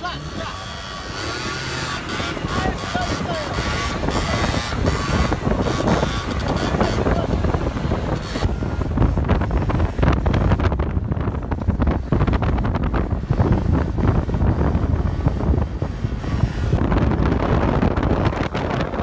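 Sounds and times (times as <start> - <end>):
scooter engines and road noise: 0.0 - 19.0
wind buffeting microphone: 0.0 - 19.0.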